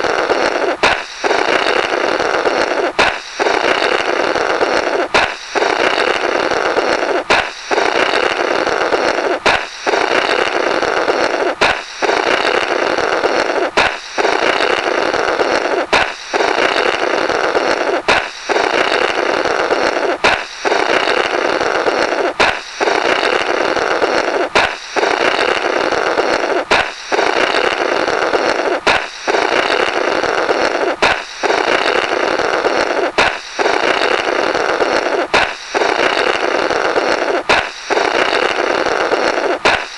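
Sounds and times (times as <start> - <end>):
balloon pop and rasping blow: 0.0 - 39.9.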